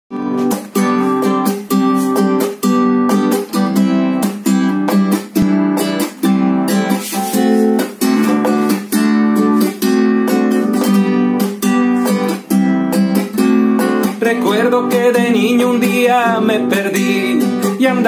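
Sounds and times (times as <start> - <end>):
nylon-string guitar strumming chords: 0.1 - 18.0.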